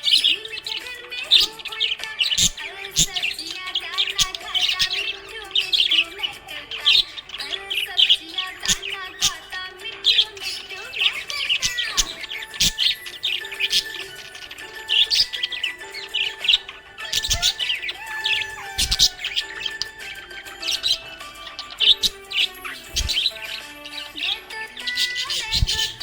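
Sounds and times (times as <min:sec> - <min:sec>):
budgerigars chirping and warbling: 0:00.0 - 0:26.0.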